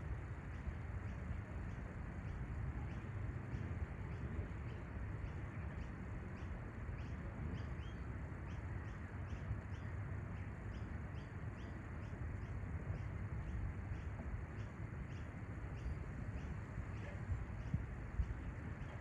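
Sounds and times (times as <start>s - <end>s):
steady low rumble: 0.0s - 19.0s
small bird chirping: 2.2s - 19.0s.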